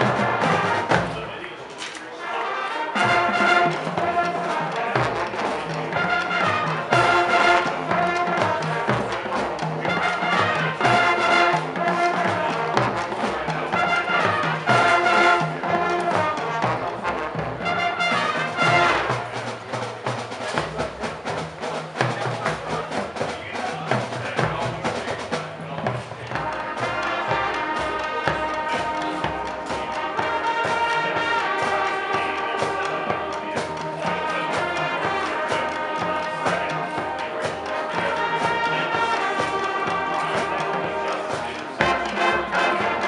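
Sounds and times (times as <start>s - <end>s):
brass band chords: 0.0s - 43.0s
drumline beats: 0.0s - 43.0s.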